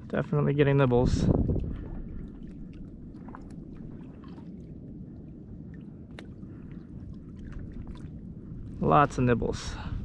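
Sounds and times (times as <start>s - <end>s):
water splashing against hull: 0.0s - 10.0s
wind rumble: 0.0s - 10.0s.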